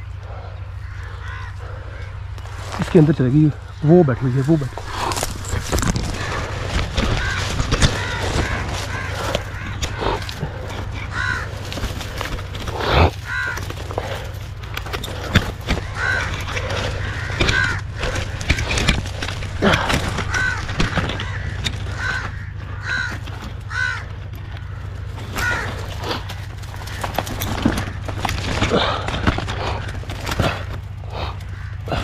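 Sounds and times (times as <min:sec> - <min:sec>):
bird cawing: 0:00.0 - 0:32.0
dry branches crackling: 0:00.0 - 0:32.0.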